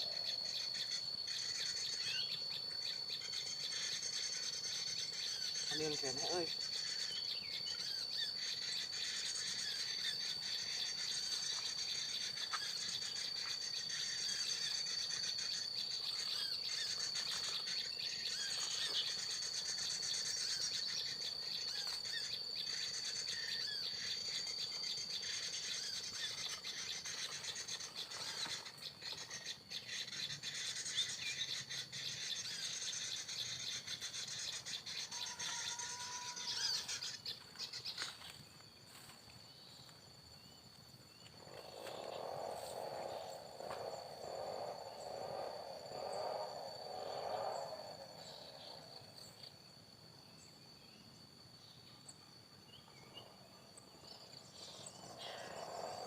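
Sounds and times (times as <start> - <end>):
small birds chirping: 0.0 - 49.6, 52.7 - 56.0
high-pitched insect drone: 0.0 - 56.0.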